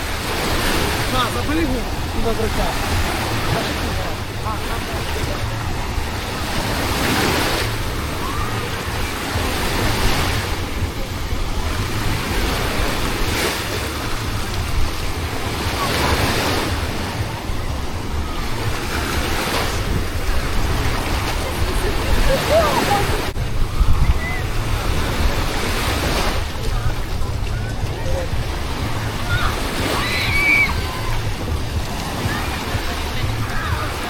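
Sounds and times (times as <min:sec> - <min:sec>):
sea waves washing ashore: 0:00.0 - 0:34.0
wind buffeting microphone: 0:04.9 - 0:34.0.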